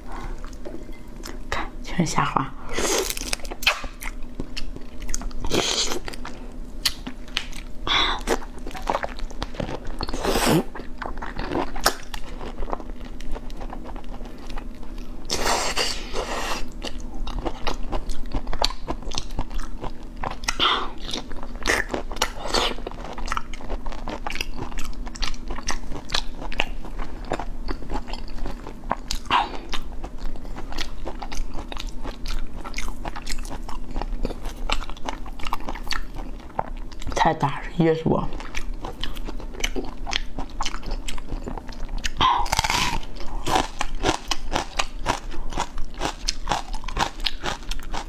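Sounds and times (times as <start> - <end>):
person chewing prawn: 2.7 - 37.2, 38.3 - 48.0.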